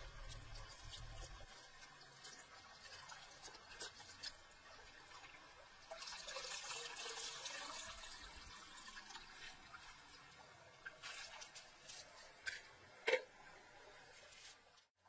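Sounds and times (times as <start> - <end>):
water pouring and splashing: 0.0 - 12.8.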